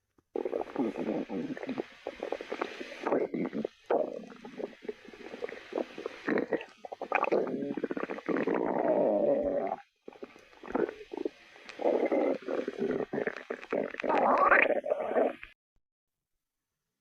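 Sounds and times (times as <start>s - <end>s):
stomach growling: 0.3s - 15.6s.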